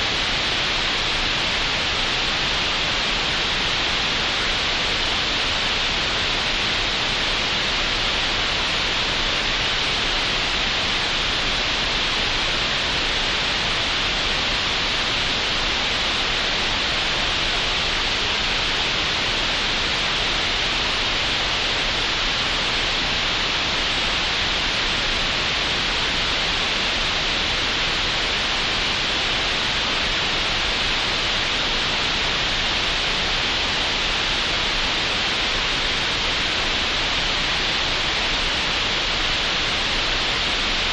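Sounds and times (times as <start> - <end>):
steady green noise hiss: 0.0 - 40.9.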